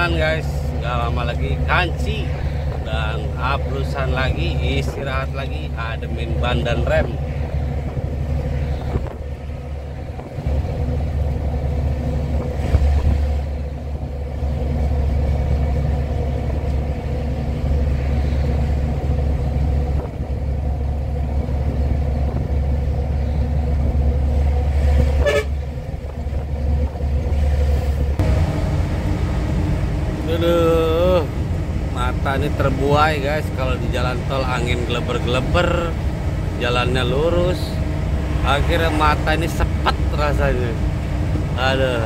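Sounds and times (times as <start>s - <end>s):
road noise: 0.0s - 42.0s
truck diesel engine droning: 0.0s - 42.0s.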